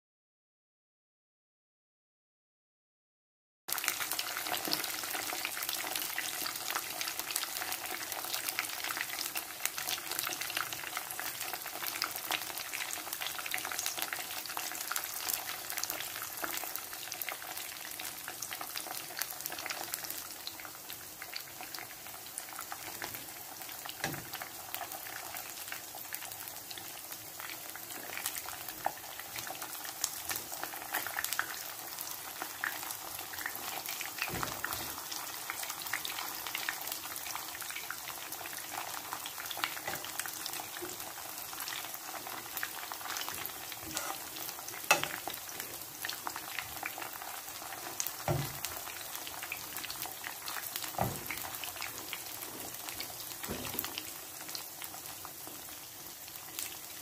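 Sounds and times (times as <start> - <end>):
food frying in hot oil: 3.7 - 57.0.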